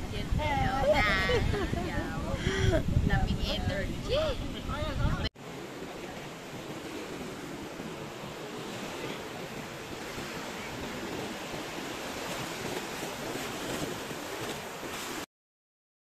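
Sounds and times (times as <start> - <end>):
surf washing onto beach: 0.0 - 15.3.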